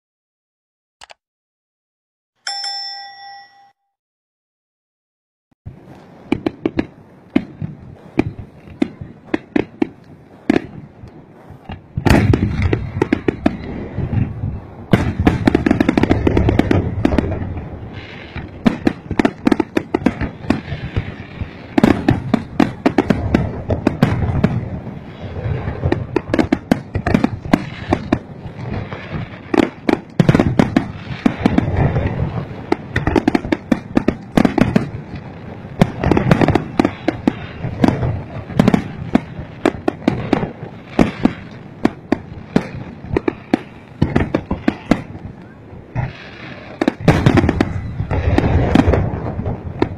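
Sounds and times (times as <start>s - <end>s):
fireworks bangs: 5.7s - 49.9s.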